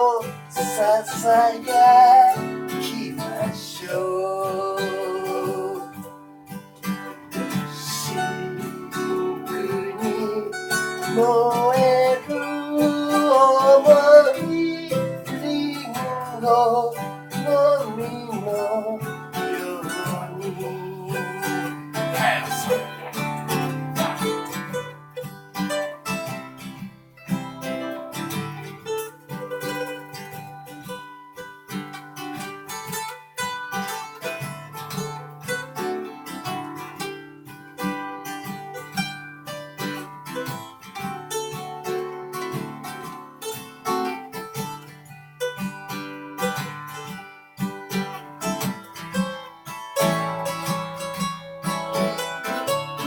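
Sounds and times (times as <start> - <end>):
acoustic guitar plucking: 0.0 - 53.0.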